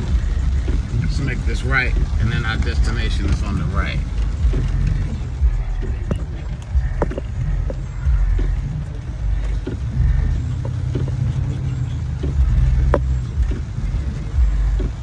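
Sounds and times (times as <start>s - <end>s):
low cabin rumble: 0.0s - 15.0s.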